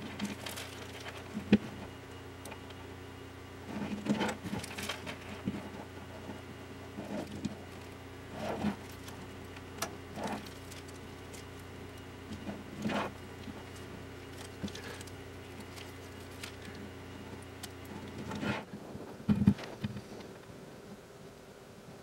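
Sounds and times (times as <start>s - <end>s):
light strip rustling and crinkling: 0.0s - 2.8s, 3.7s - 20.5s
steady low hum: 0.0s - 22.0s.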